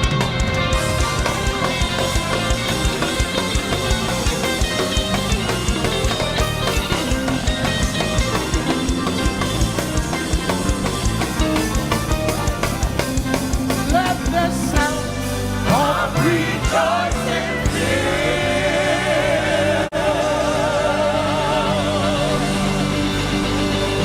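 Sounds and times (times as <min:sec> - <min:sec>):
band with drums playing: 0:00.0 - 0:24.0.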